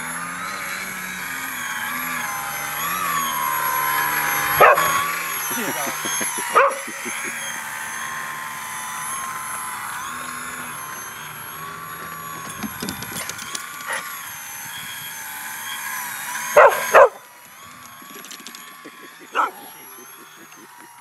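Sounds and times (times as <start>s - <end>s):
model plane motor whining: 0.0s - 21.0s.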